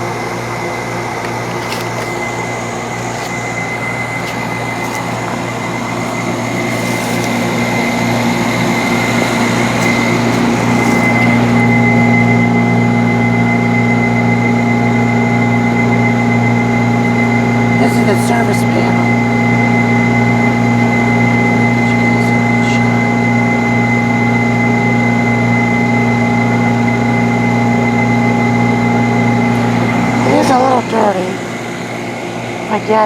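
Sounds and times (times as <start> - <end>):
fan noise: 0.0 - 33.0
heat pump compressor hum: 0.0 - 33.0
thin high whine: 0.0 - 33.0.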